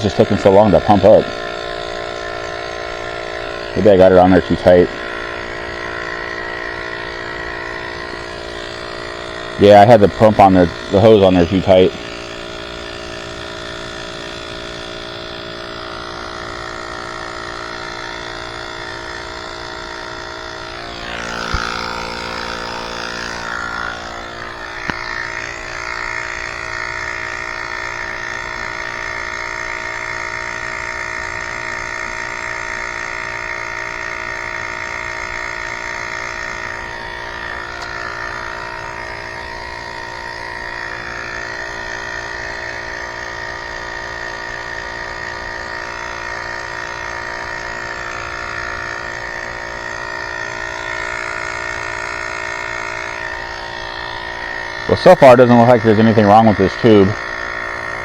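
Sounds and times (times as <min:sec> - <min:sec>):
electric air pump running: 0:00.0 - 0:58.0.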